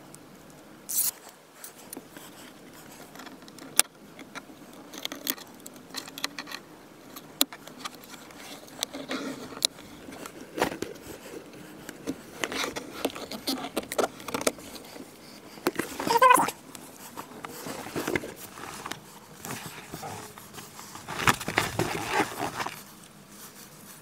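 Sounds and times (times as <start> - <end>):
small clicks taps and scrapes: 0.5 - 23.6.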